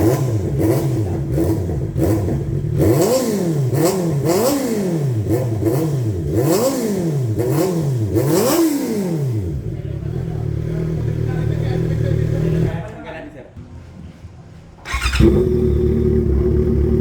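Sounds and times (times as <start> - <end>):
motorcycle engine revving: 0.0 - 12.7, 14.9 - 17.0.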